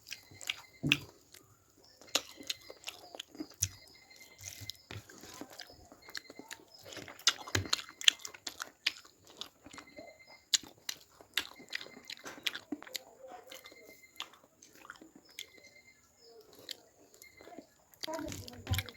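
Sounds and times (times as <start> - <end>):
chewing and biting: 0.0 - 18.9.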